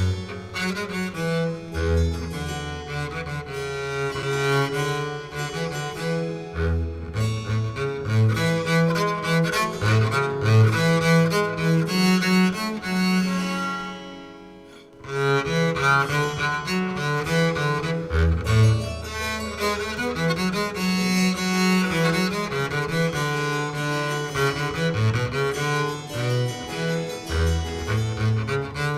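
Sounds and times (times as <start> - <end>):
cello and bowed strings: 0.0 - 28.9.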